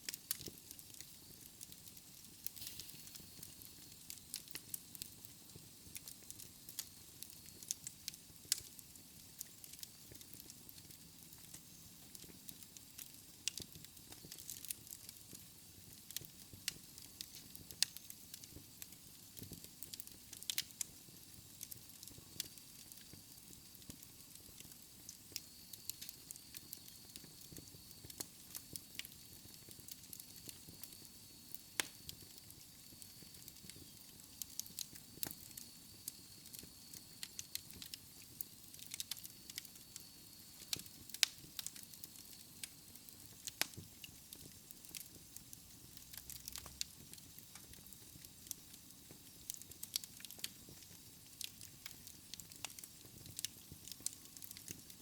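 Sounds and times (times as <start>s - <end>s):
faint steady hiss: 0.0s - 55.0s
wood fire crackling: 0.0s - 55.0s.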